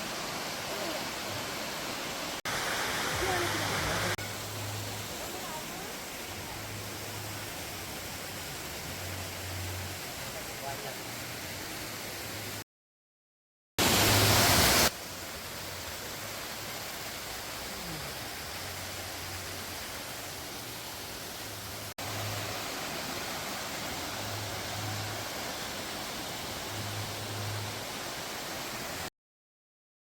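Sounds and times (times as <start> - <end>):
waterfall rushing: 0.0 - 12.6, 13.8 - 29.1.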